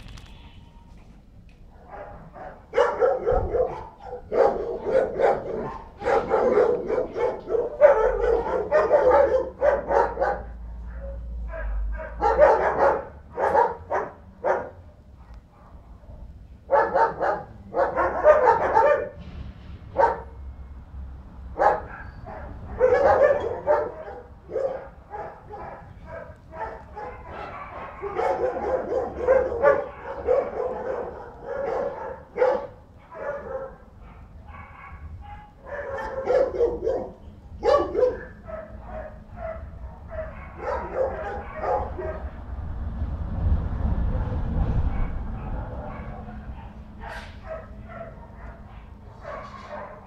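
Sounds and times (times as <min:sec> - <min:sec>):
dog barking: 0:01.8 - 0:19.2, 0:20.0 - 0:20.4, 0:21.6 - 0:42.4, 0:44.8 - 0:50.0.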